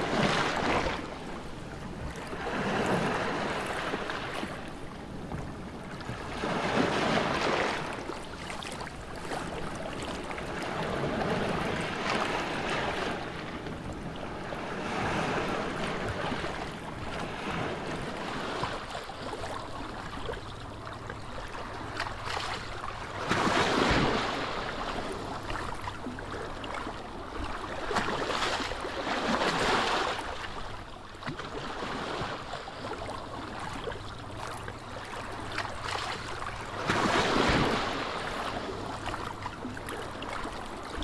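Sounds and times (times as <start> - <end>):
waves washing in: 0.0 - 41.0.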